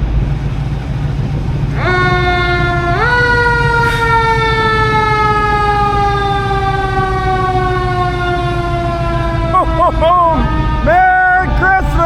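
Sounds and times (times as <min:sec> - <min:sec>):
low vehicle engine rumble: 0:00.0 - 0:12.0
siren wailing: 0:01.0 - 0:12.0.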